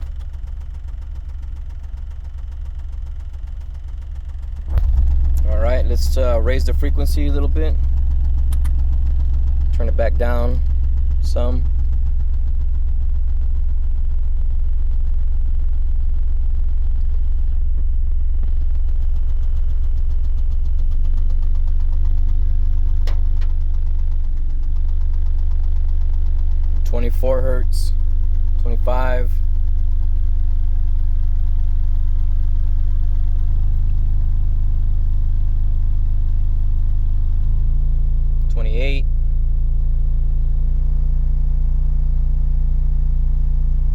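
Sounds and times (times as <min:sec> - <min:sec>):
deep bass test tone: 0:00.0 - 0:43.9.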